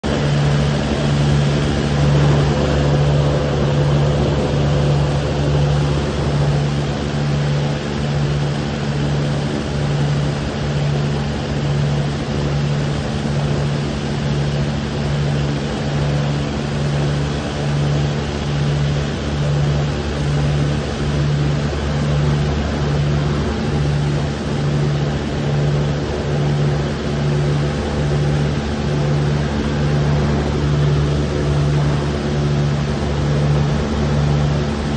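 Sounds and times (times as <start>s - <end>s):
airboat engine droning: 0.0s - 34.9s.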